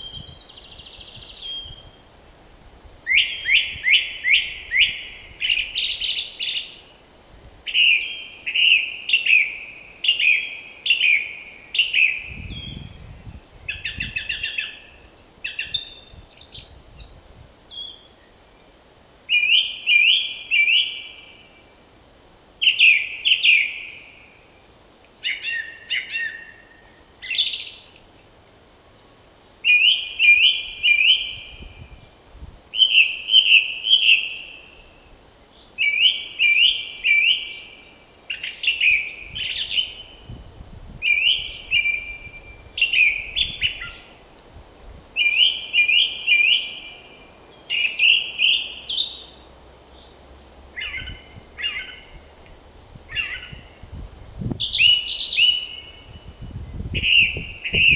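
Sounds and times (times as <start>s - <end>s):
songbird singing: 0.0s - 2.3s, 3.0s - 57.9s.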